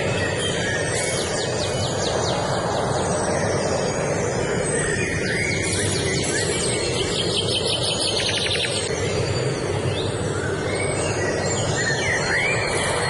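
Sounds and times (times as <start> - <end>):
bird trill: 0.0 - 13.0
songbirds singing: 0.0 - 13.0
steady low rushing noise: 0.0 - 13.0.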